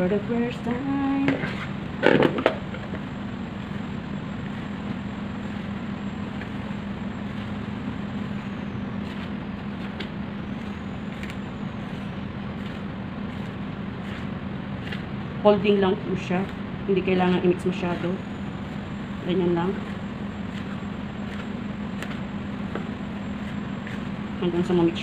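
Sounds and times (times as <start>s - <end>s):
mechanical hum and hiss: 0.0s - 25.0s.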